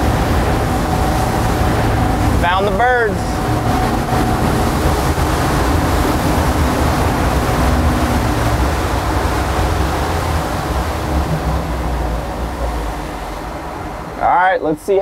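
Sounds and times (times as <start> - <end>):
low boat engine drone: 0.0 - 15.0
wind and water rushing: 0.0 - 15.0.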